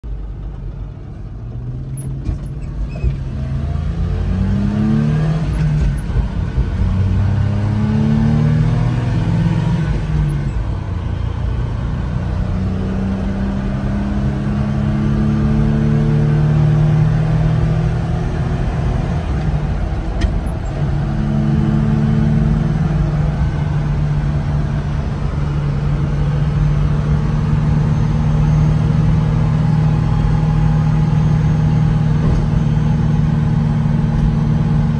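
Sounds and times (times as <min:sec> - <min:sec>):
truck engine accelerating: 0:00.0 - 0:34.9.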